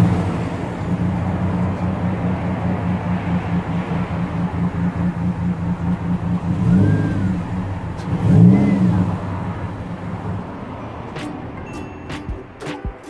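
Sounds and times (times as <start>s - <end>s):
car engine idling: 0.0s - 13.0s
engine revving from throttle blips: 0.0s - 13.0s.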